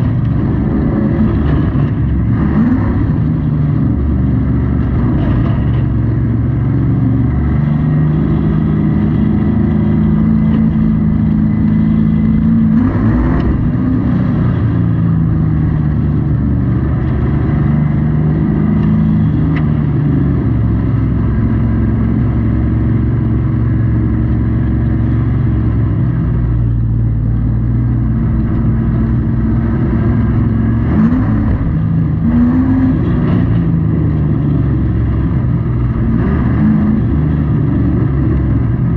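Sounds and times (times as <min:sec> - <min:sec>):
truck engine accelerating: 0:00.0 - 0:38.9.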